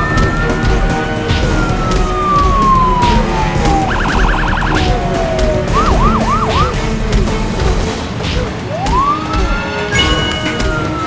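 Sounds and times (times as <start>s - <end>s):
emergency vehicle siren: 0.0s - 11.0s.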